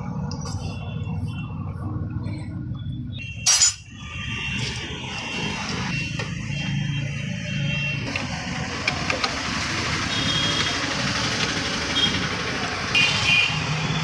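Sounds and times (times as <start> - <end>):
vehicle engines running: 0.0 - 14.0.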